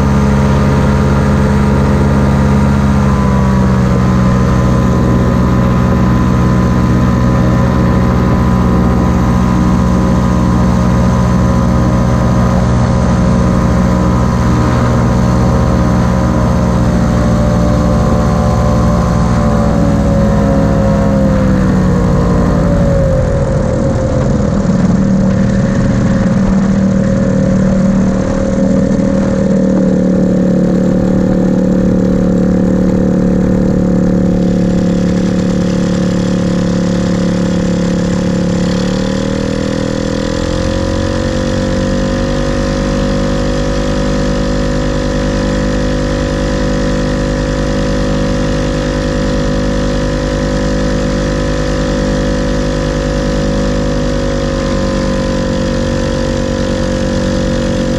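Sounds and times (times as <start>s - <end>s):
ultralight aircraft engine idling: 0.0s - 57.9s.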